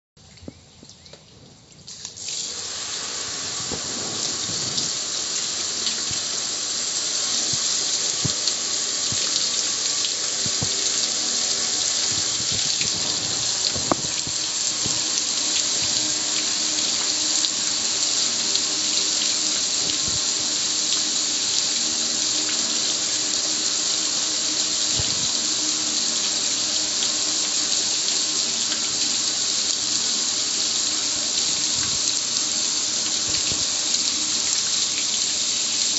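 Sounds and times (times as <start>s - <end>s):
water spraying on metal grill: 2.2s - 35.9s.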